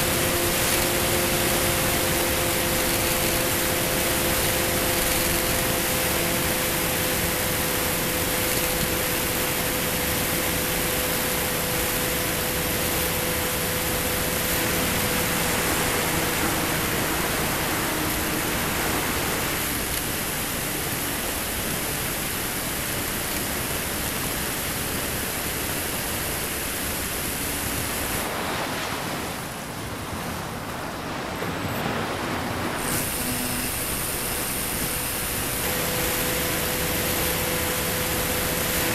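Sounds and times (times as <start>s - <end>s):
faint motor and propeller hum: 0.0s - 38.9s.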